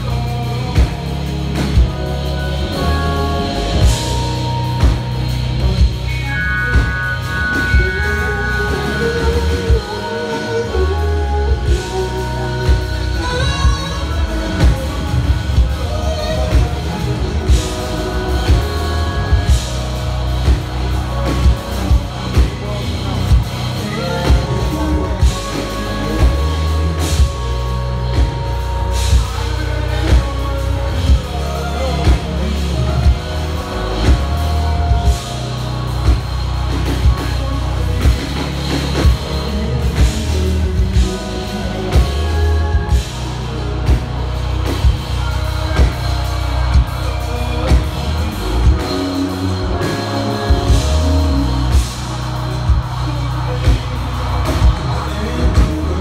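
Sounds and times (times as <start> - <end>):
deep electric bass: 0.0 - 56.0
drum kit backbeat: 0.0 - 56.0
keyboards: 0.0 - 56.0.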